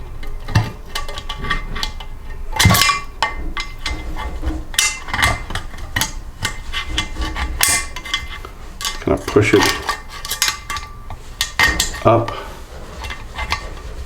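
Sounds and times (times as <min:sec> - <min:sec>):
screwdriver clicking and scraping metal: 0:00.2 - 0:14.0.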